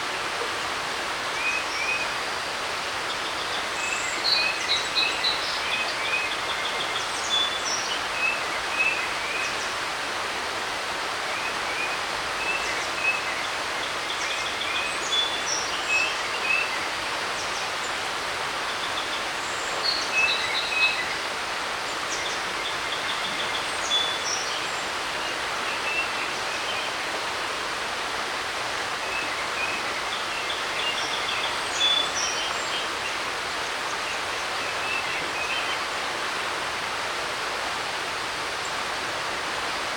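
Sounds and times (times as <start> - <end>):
creek rushing: 0.0 - 39.9.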